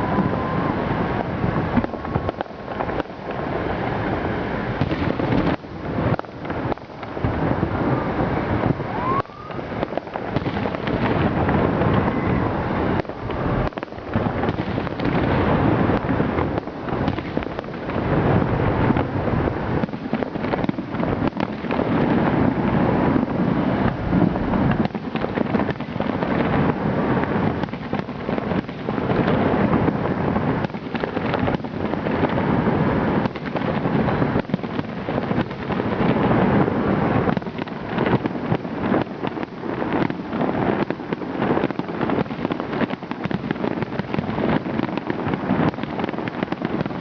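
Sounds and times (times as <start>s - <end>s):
fireworks booming and crackling: 0.0s - 47.0s.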